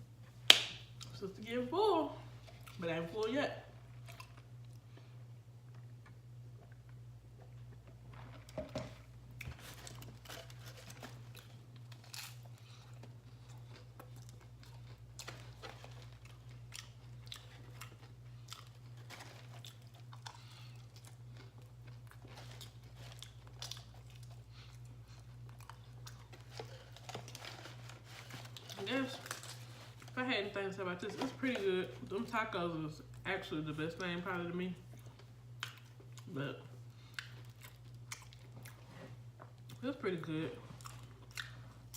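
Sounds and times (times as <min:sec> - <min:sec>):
person chewing and crunching: 0:02.3 - 0:02.8, 0:03.7 - 0:30.3, 0:34.8 - 0:41.9.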